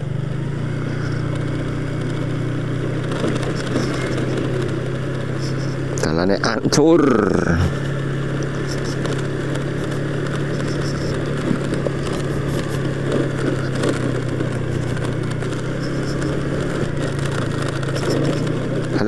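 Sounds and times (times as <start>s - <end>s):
scooter engine running: 0.0s - 19.0s
wind and road noise: 0.0s - 19.0s.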